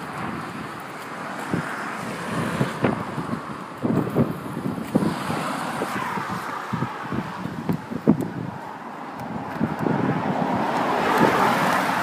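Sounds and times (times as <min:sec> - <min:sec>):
road traffic: 0:00.0 - 0:12.0
wind rumbling on microphone: 0:00.0 - 0:12.0.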